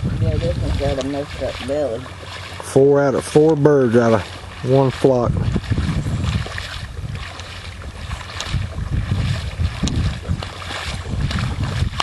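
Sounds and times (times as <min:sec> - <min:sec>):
boots sloshing through water: 0:00.0 - 0:12.0
wind buffeting microphone: 0:00.0 - 0:12.0.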